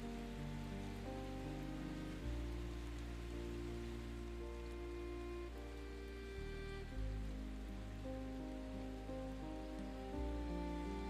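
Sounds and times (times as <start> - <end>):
soft slow chord music: 0.0 - 11.0
steady rainfall: 0.0 - 11.0.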